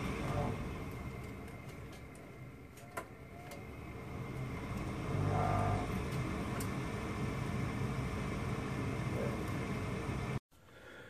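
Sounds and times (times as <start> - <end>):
motor running with low hum: 0.0 - 10.4.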